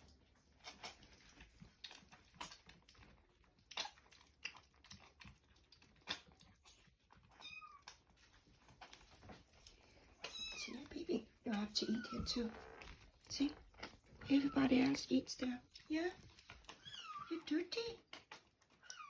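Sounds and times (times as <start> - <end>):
kittens eating clicks and smacks: 0.0 - 19.0.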